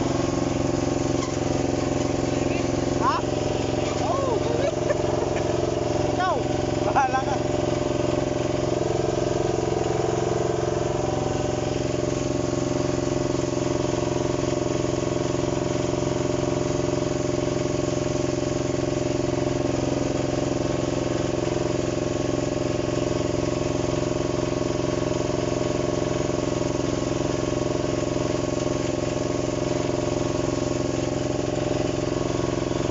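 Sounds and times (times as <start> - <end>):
diesel engine running steadily: 0.0 - 32.9.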